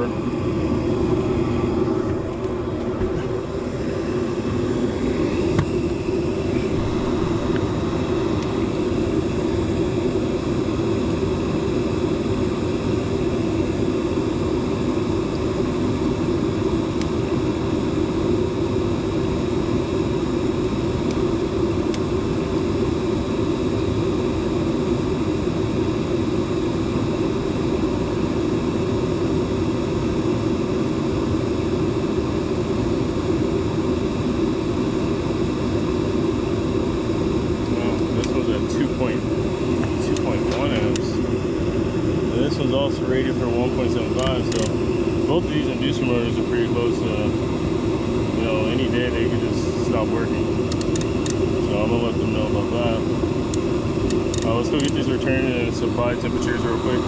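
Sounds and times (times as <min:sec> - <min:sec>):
furnace motor and blower drone: 0:00.0 - 0:57.0.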